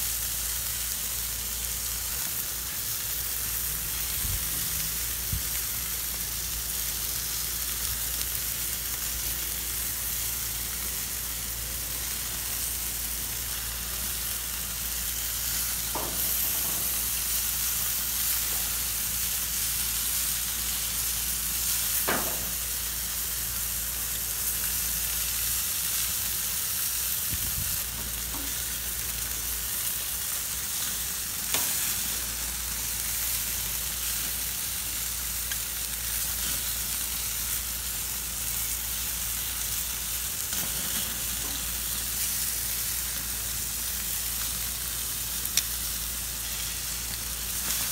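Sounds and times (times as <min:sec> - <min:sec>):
sausages sizzling on grill: 0:00.0 - 0:47.9.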